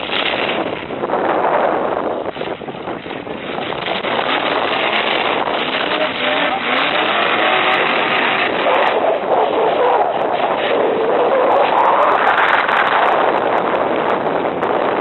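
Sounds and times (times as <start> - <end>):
dense rush of noise: 0.0 - 15.0
truck engines revving: 0.0 - 15.0.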